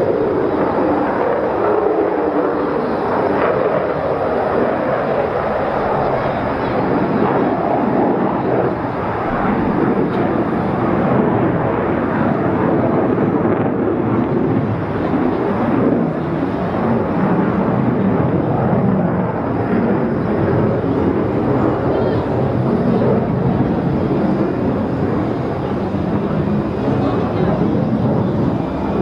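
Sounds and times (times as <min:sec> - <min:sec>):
jet bomber flying past: 0:00.0 - 0:29.0.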